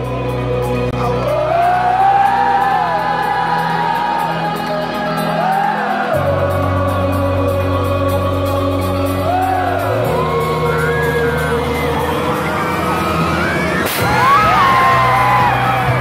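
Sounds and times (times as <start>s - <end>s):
held bass chords: 0.0s - 16.0s
wordless sung ooh glides: 0.0s - 16.0s.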